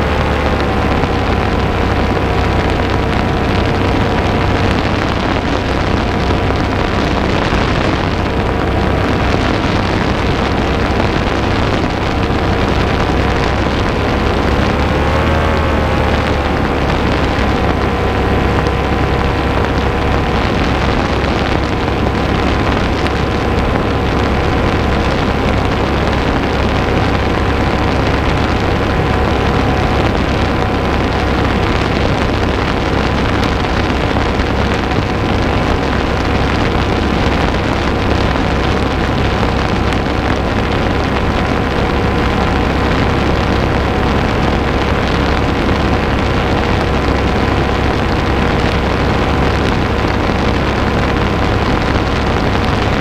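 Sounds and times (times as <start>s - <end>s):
paramotor engine drone: 0.0s - 53.0s
wind noise on microphone: 0.0s - 53.0s.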